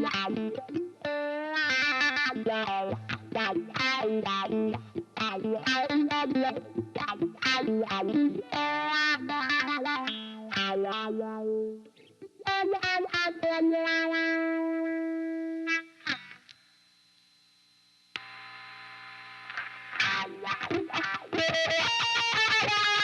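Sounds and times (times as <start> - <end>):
distorted electric guitar: 0.0 - 16.6, 18.2 - 23.0.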